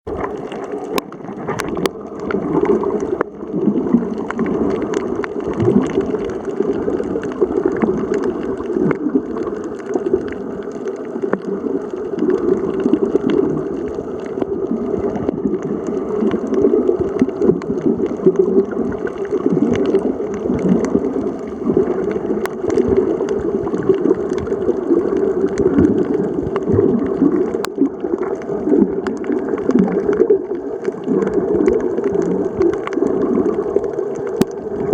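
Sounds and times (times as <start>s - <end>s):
underwater water gurgling: 0.0s - 34.9s.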